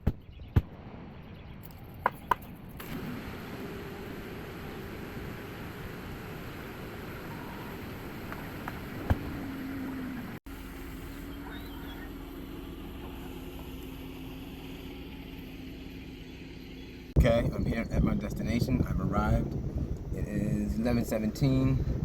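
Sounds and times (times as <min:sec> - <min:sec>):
car running noise: 0:00.0 - 0:22.0
low steady hum: 0:02.5 - 0:22.0.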